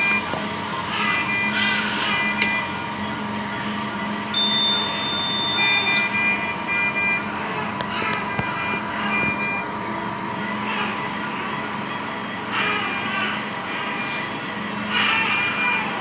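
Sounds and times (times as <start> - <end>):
electronic beeping: 0.0 - 16.0
steady hum: 0.0 - 16.0.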